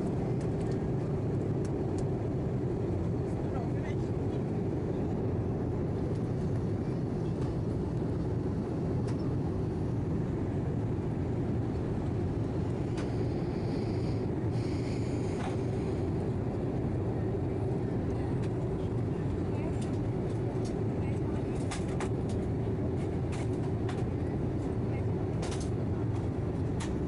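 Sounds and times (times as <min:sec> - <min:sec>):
airliner cabin drone: 0:00.0 - 0:27.0.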